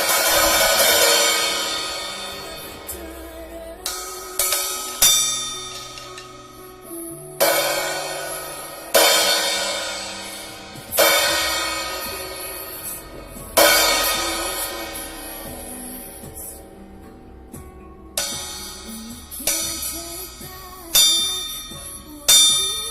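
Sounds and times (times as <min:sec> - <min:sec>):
crash cymbal ringing: 0:00.0 - 0:22.9.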